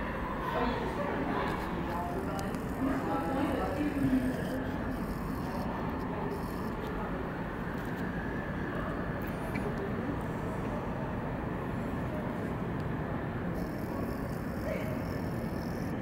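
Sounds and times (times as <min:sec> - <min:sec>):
city rumble and hiss: 0:00.0 - 0:16.0.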